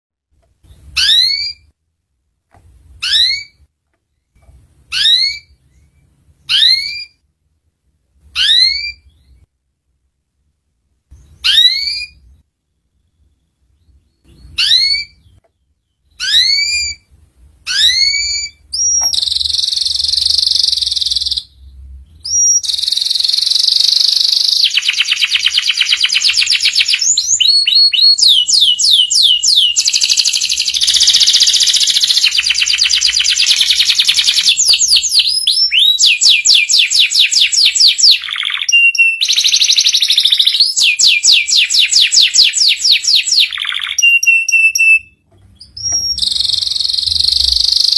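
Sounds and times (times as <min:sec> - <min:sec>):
canary singing: 0:00.6 - 0:01.8, 0:03.0 - 0:07.2, 0:08.2 - 0:09.5, 0:11.1 - 0:47.9.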